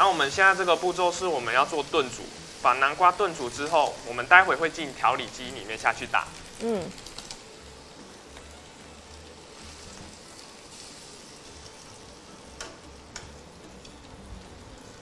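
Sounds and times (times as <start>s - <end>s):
soup sizzling in a pot: 0.0s - 15.0s.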